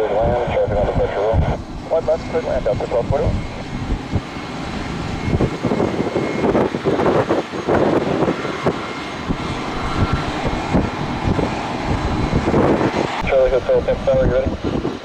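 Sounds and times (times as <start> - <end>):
jet engines roaring: 0.0 - 15.0
wind on microphone: 0.0 - 15.0.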